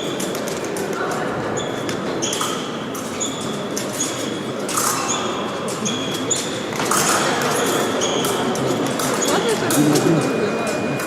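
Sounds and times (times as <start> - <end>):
murmur of hall noise: 0.0 - 11.0.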